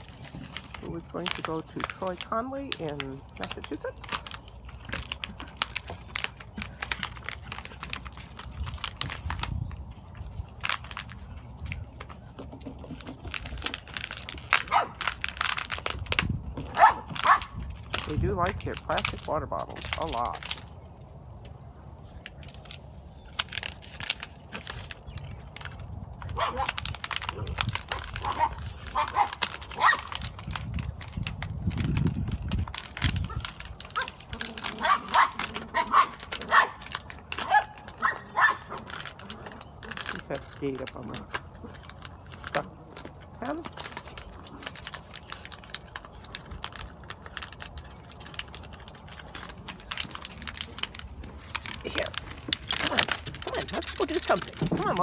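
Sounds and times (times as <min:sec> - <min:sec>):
paws crunching on gravel: 0:00.0 - 0:55.0
pebbles and plastic rattling: 0:00.0 - 0:55.0
plastic dish on gravel: 0:00.0 - 0:55.0.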